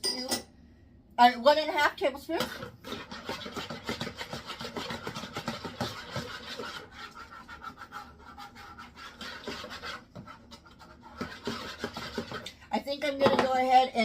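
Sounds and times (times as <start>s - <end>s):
utensil scraping mixing bowl: 2.1s - 13.8s.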